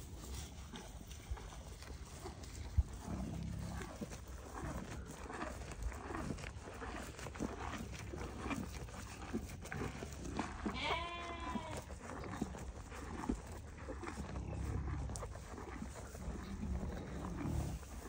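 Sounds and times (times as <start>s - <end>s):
cattle munching hay: 0.0s - 18.0s.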